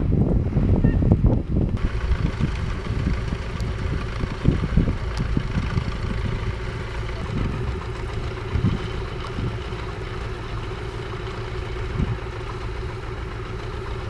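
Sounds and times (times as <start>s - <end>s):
backhoe loader engine idling: 1.5s - 14.0s.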